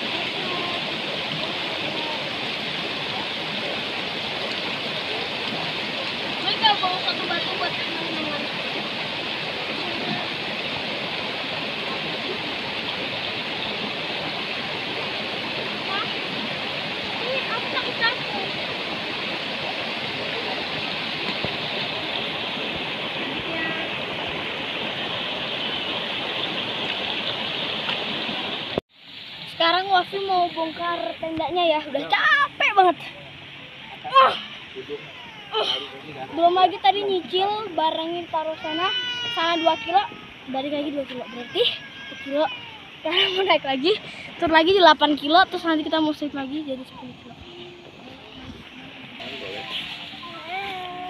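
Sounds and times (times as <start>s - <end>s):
river rushing over stones: 0.0s - 34.8s, 42.3s - 51.0s.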